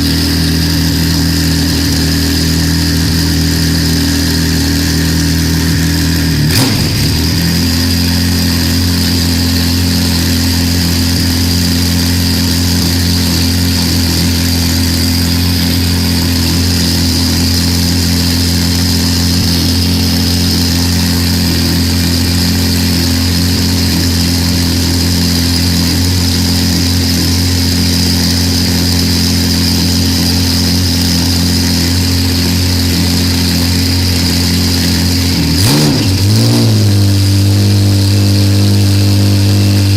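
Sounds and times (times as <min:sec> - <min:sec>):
race car engine idling: 0:00.0 - 0:39.9
steady high whine: 0:00.0 - 0:39.9.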